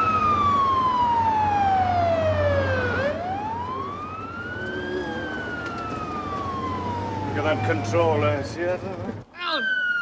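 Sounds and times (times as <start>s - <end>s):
ambulance siren wailing: 0.0s - 8.6s, 9.4s - 10.0s.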